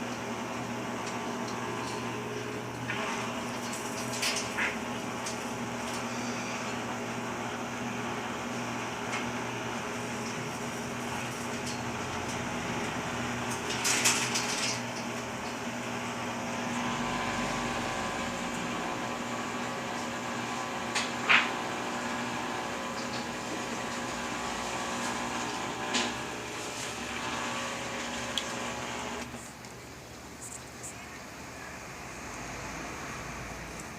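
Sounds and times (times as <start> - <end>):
washing machine motor hum: 0.0 - 33.9.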